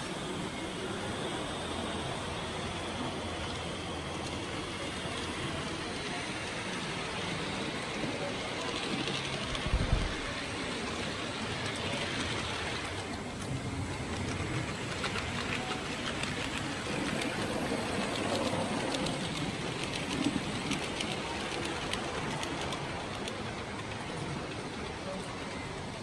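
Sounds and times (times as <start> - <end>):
large hall background noise: 0.0 - 26.0.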